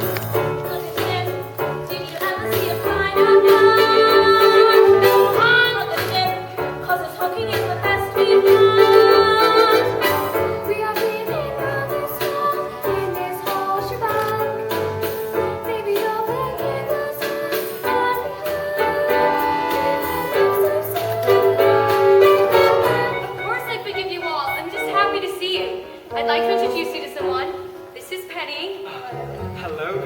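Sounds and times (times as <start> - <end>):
instrumental accompaniment: 0.0 - 30.0
voices singing: 0.6 - 27.5.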